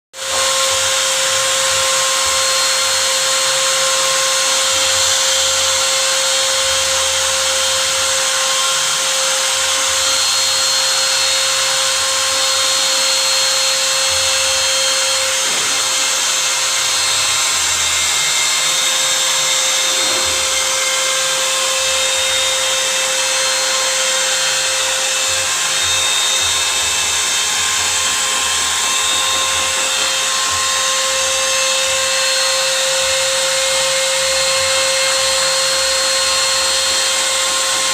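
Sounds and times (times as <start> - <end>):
router spindle high whine: 0.2 - 37.9.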